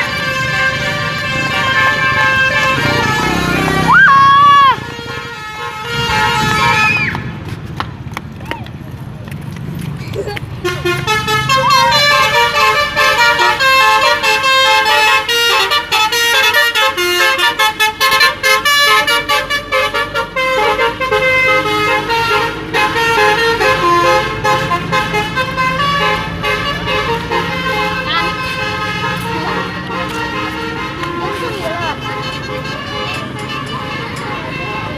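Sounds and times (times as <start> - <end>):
multi-tone musical horn: 0.0 - 7.0, 10.6 - 34.9.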